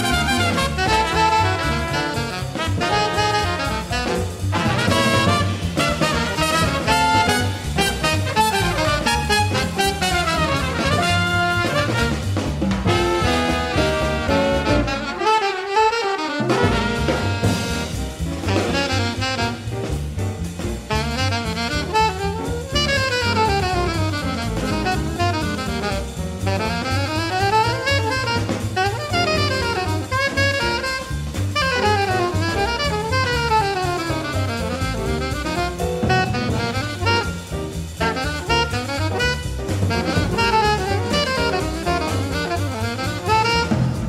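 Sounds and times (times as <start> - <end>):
walking upright bass: 0.0 - 15.2, 16.5 - 44.0
alto saxophone solo: 0.0 - 19.9, 20.9 - 44.0
drum kit: 0.0 - 44.0.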